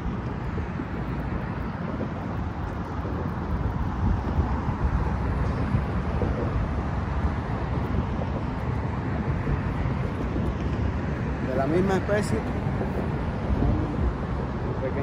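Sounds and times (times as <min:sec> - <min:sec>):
road traffic noise: 0:00.0 - 0:15.0
wind buffeting microphone: 0:00.0 - 0:15.0.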